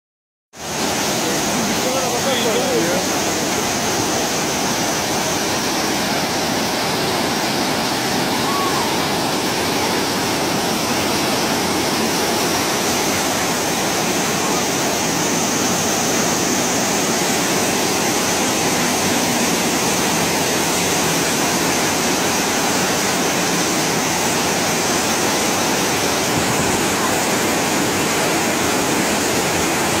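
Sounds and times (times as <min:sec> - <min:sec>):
floodwater rushing: 0:00.5 - 0:30.0.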